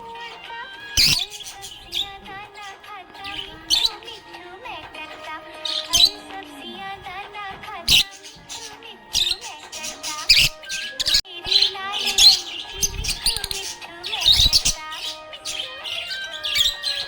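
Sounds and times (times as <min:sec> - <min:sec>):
budgerigar chirping and warbling: 0:00.0 - 0:04.4, 0:05.0 - 0:06.9, 0:07.8 - 0:17.0
background music with held notes: 0:00.0 - 0:17.0.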